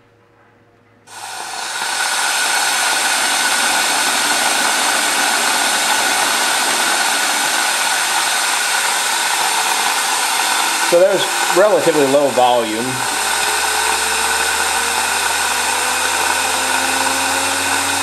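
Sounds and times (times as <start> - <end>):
compressed air hissing through turbine: 1.1 - 18.0.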